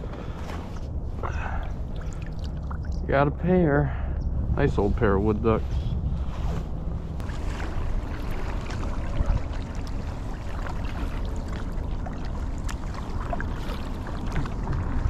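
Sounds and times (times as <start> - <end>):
wind rumble on microphone: 0.0 - 15.0
water sloshing: 0.2 - 3.1, 5.7 - 15.0.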